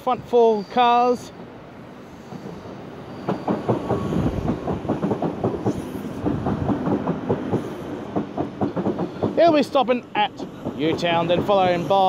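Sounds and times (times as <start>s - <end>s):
train rumble: 0.9s - 12.0s
train wheels clacking over rail joints: 2.2s - 12.0s.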